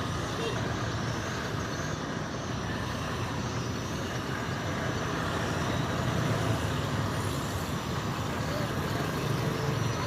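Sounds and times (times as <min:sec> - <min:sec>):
motorboat engines humming: 0:00.0 - 0:10.0.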